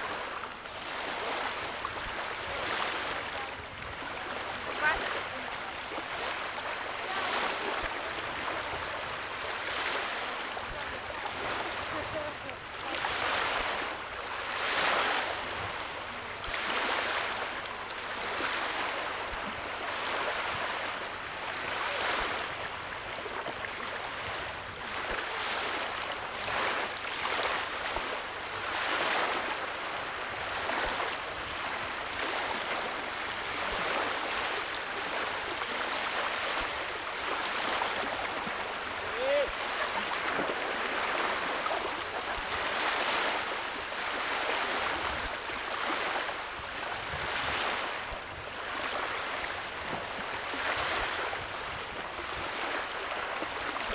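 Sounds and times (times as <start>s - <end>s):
lake water lapping: 0.0s - 53.9s
wind: 0.0s - 53.9s.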